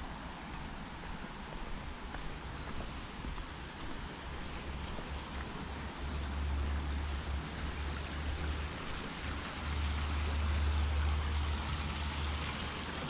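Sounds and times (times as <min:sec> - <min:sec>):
creek trickling over stones: 0:00.0 - 0:13.0.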